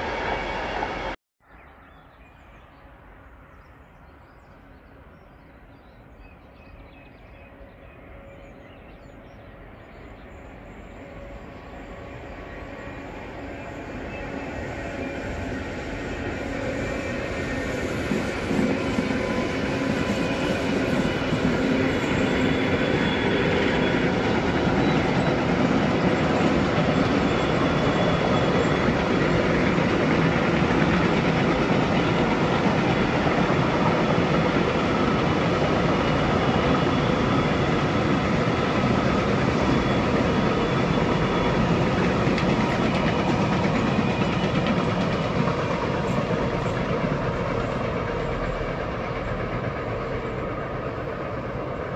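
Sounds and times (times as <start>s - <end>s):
freight train wheels on rail: 0.0s - 1.2s, 2.6s - 51.9s.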